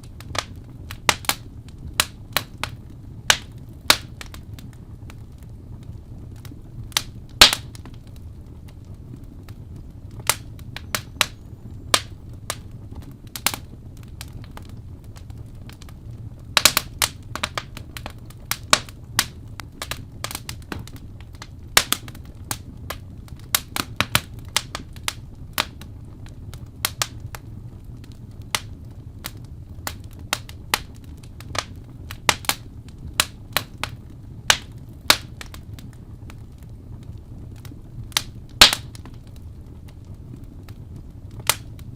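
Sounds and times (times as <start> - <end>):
low steady rumble: 0.0 - 41.9
wood fire crackling: 0.0 - 41.9.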